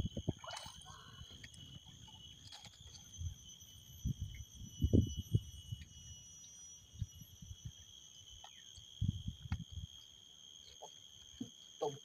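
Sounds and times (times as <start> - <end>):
faint high-pitched insect chirring: 0.0 - 12.0.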